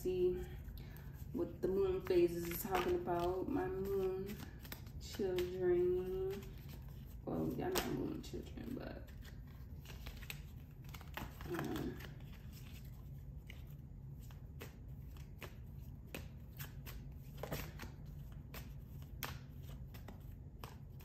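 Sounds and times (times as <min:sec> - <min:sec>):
cards shuffled by hand: 0:00.4 - 0:21.0.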